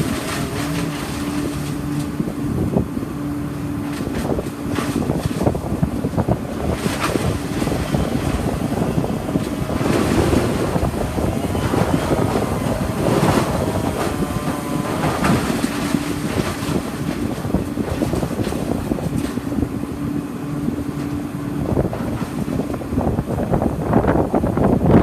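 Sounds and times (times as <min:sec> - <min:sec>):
wind gusting across microphone: 0:00.0 - 0:25.0.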